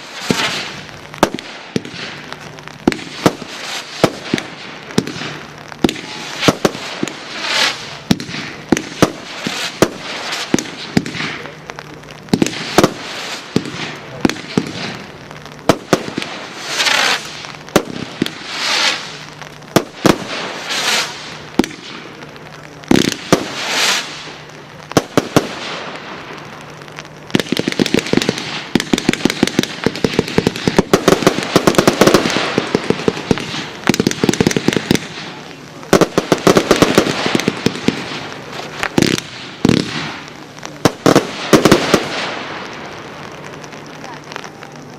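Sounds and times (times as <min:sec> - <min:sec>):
firework shots with hissing tails: 0:00.0 - 0:44.9
rapid firework bangs and crackles: 0:00.0 - 0:44.9.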